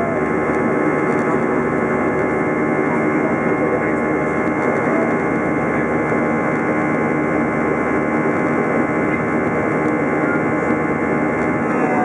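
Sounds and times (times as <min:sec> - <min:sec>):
jet engine and airflow in cabin: 0:00.0 - 0:12.0
steady tonal hum: 0:00.0 - 0:12.0.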